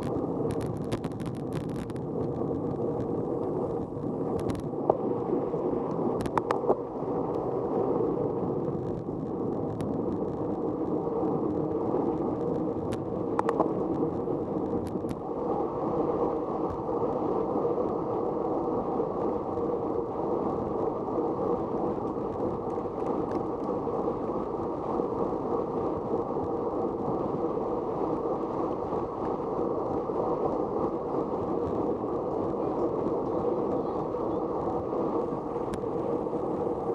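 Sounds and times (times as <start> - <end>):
muffled wind and motion rumble: 0.0 - 36.9.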